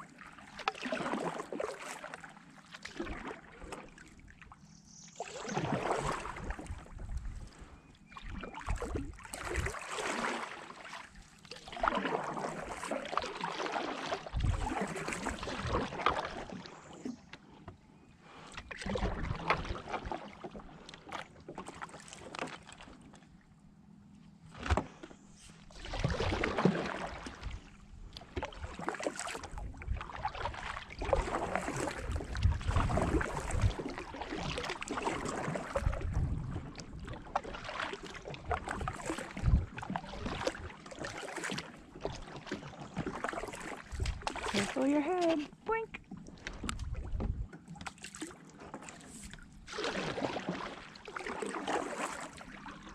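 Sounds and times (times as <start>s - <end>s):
kayak paddle splashing water: 0.0s - 17.3s, 18.4s - 23.2s, 24.5s - 52.9s.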